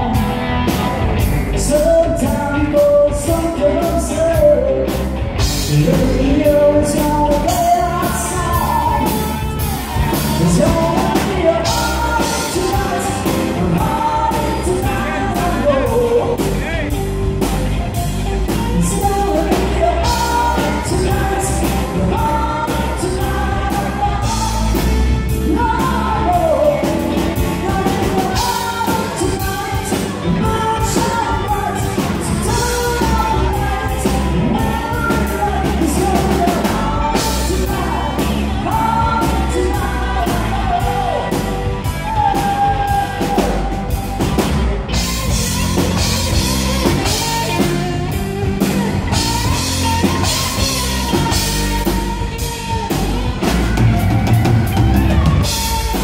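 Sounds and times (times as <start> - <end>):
live country band playing: 0.0 - 56.0
man singing: 0.0 - 56.0.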